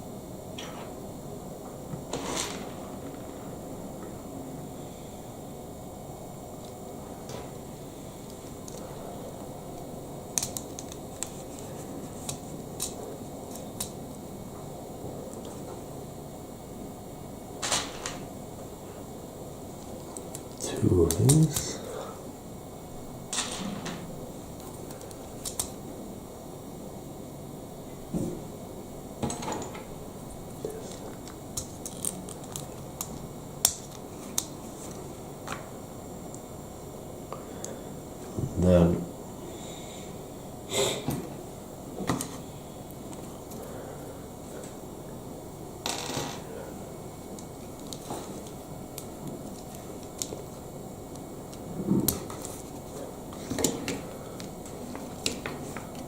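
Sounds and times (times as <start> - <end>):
room hiss: 0.0 - 56.0.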